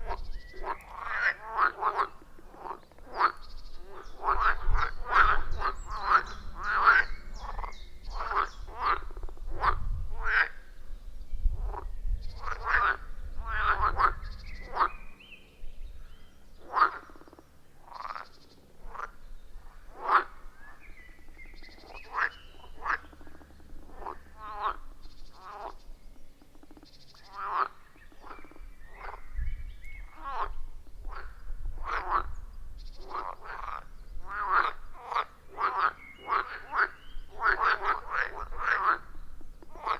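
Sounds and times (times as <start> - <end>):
frogs croaking: 0.0 - 15.3, 16.0 - 39.9.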